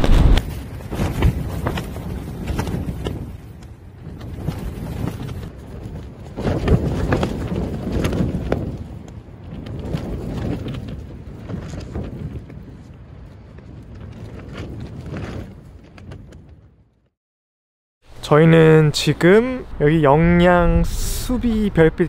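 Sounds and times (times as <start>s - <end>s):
wind gusting on microphone: 0.0s - 17.1s, 18.1s - 22.0s.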